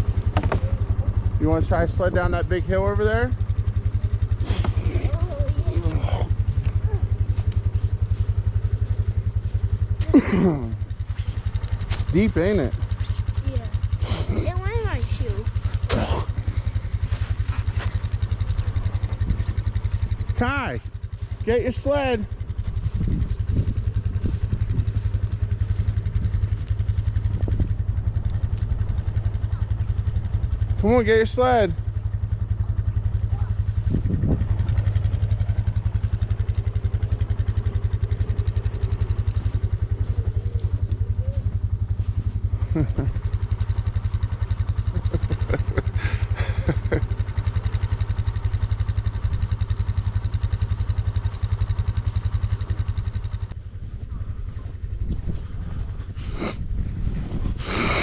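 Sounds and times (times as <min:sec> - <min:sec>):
atv engine idling: 0:00.0 - 0:58.0.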